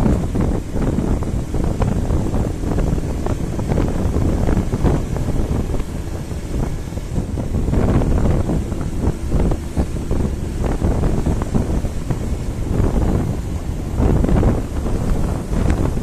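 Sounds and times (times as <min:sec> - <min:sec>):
motorcycle running: 0:00.0 - 0:16.0
wind buffeting microphone: 0:00.0 - 0:16.0.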